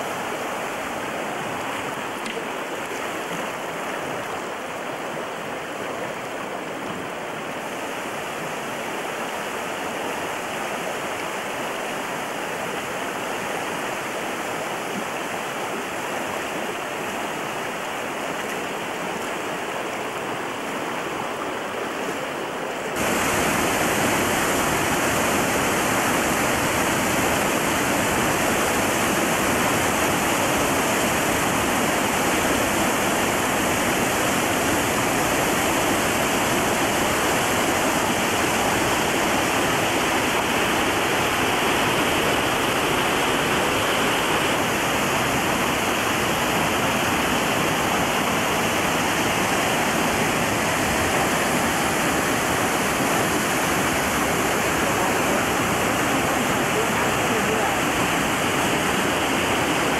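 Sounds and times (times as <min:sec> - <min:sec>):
river rapid rushing over rocks: 0:00.0 - 0:59.9.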